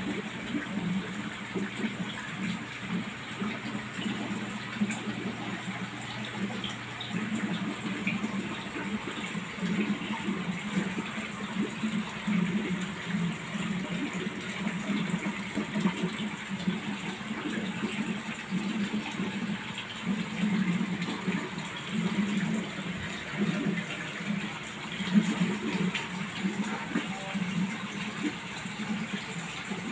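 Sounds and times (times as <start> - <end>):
aquarium water bubbling: 0.0 - 29.9.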